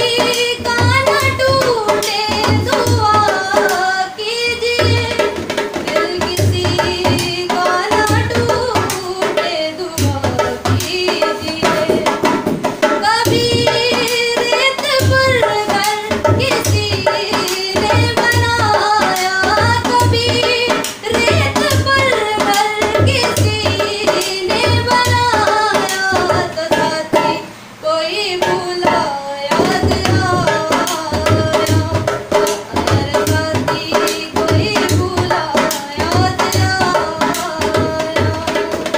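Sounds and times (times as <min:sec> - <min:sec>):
hand drum beat: 0:00.0 - 0:27.5, 0:28.2 - 0:38.9
woman singing: 0:00.0 - 0:38.9.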